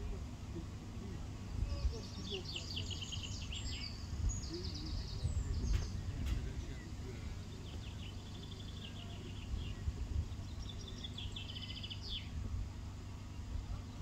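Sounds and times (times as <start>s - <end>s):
small birds trilling: 0.0s - 14.0s
wind rumble on microphone: 1.2s - 8.0s, 9.2s - 14.0s.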